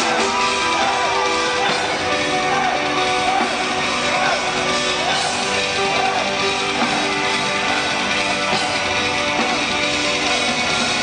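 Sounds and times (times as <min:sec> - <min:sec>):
live death metal music: 0:00.0 - 0:11.0.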